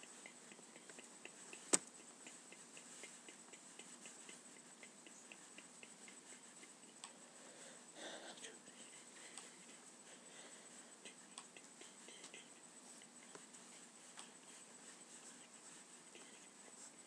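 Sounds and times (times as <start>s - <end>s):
soft rapid ticks: 0.0s - 7.4s, 8.3s - 17.0s.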